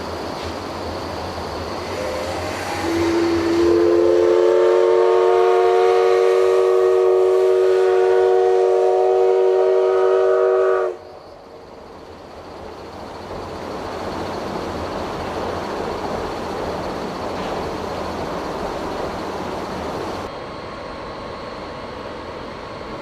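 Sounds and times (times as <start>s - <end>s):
train running past: 0.0s - 23.0s.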